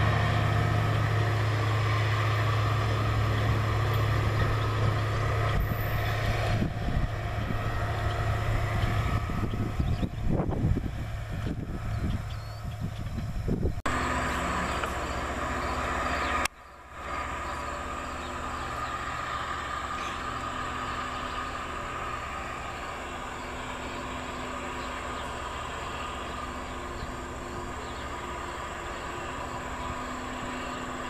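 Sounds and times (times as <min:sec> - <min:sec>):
rail grinding train grinding: 0:00.0 - 0:31.0.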